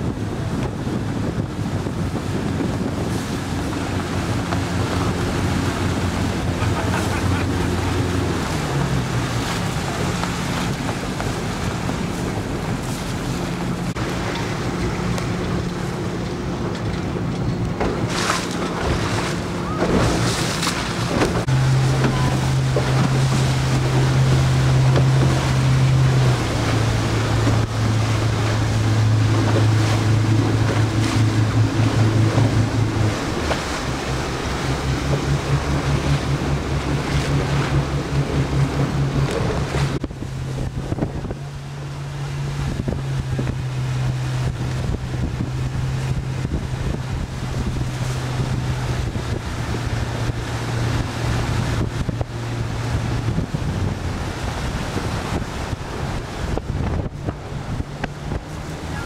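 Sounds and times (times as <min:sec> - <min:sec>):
boat motor running: 0:00.0 - 0:59.0
water noise: 0:00.0 - 0:59.0
wind on microphone: 0:00.0 - 0:59.0.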